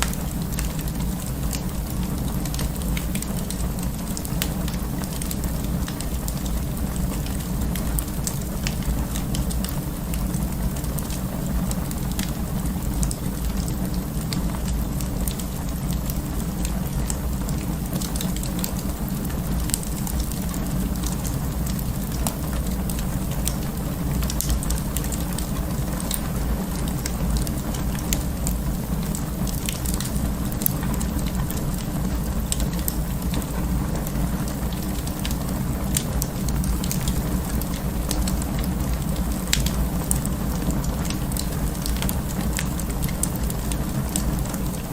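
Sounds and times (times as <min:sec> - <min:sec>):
low rumble of flames: 0:00.0 - 0:44.9
wood fire crackling: 0:00.0 - 0:44.9.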